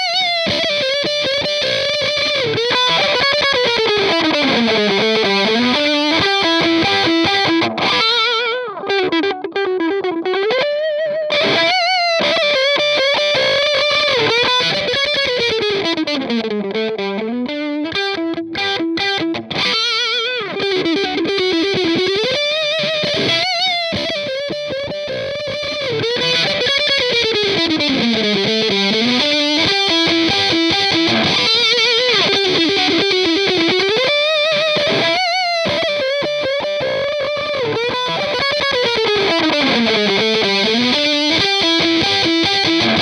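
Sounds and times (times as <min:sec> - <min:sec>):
distorted electric guitar lead: 0:00.0 - 0:43.0.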